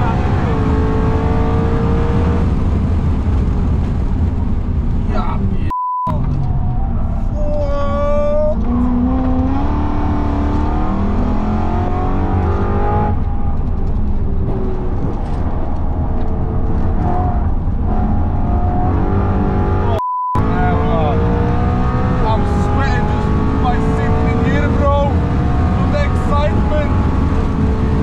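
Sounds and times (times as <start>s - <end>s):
car engine revving: 0.0s - 5.2s, 6.1s - 28.0s
road and tyre rumble: 0.0s - 28.0s.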